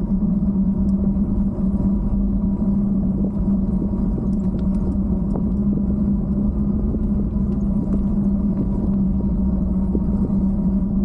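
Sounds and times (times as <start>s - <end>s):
bike rumbling on paved street: 0.0s - 11.0s
constant low hum: 0.0s - 11.0s.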